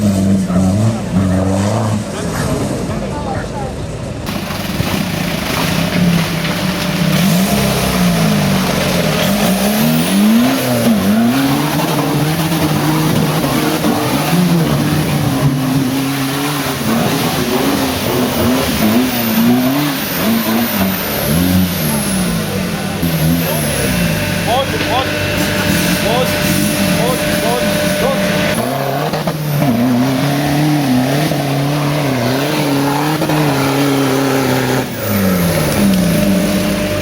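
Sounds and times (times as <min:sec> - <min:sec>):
diesel engine revving: 0:00.0 - 0:37.0.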